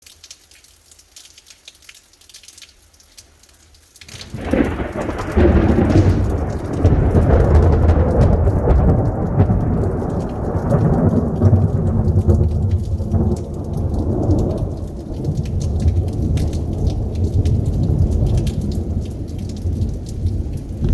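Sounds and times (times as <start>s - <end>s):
light rain pattering: 0.0s - 20.9s
thunder crack and rumble: 4.1s - 20.9s.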